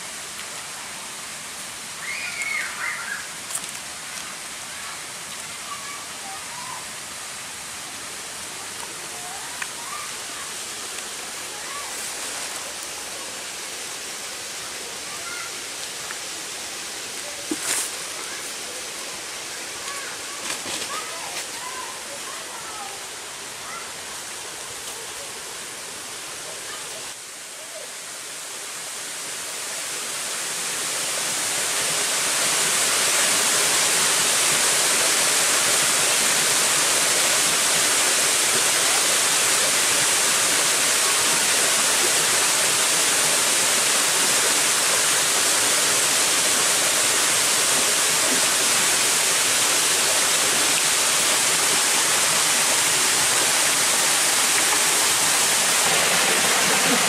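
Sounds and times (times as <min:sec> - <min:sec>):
rushing water hiss: 0:00.0 - 0:57.0.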